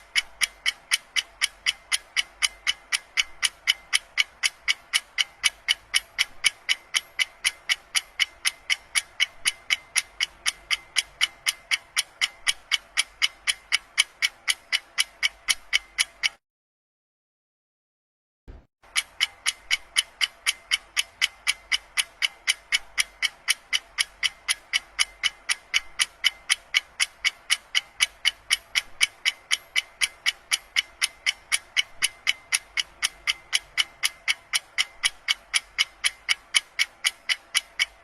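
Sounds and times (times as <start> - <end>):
clock ticking fast: 0.0 - 16.4, 18.8 - 38.0.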